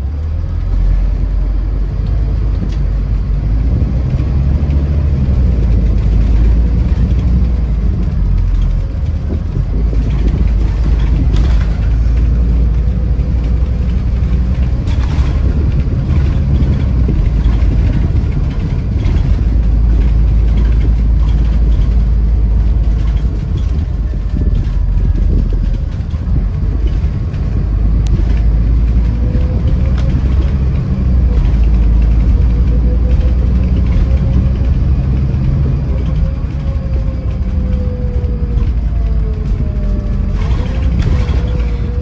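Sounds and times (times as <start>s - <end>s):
coach engine and road rumble: 0.0s - 42.0s.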